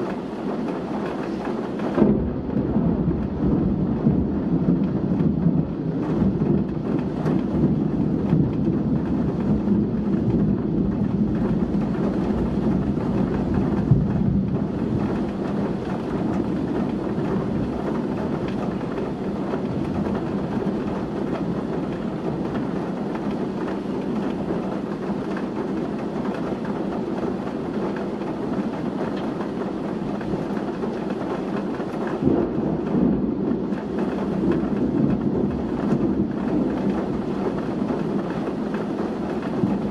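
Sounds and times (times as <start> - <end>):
gusting wind: 0.0 - 39.9
heavy rain pouring: 0.0 - 39.9.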